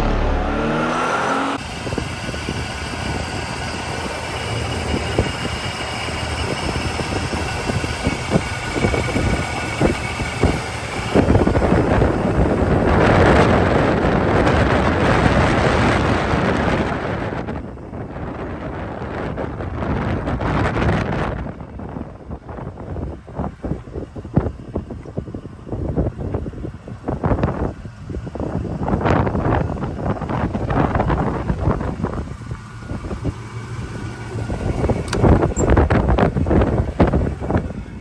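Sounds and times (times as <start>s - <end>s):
truck engine running: 0.0s - 38.0s.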